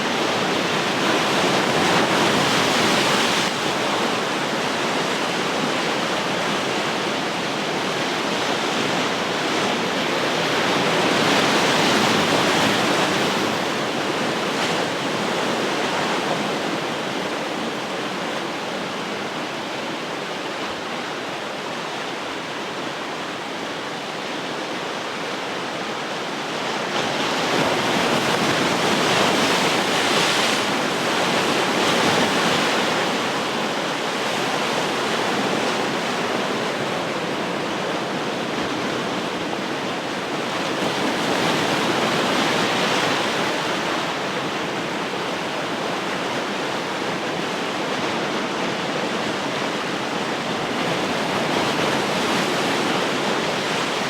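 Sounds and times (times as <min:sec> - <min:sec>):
ocean surf washing onto shore: 0:00.0 - 0:54.0.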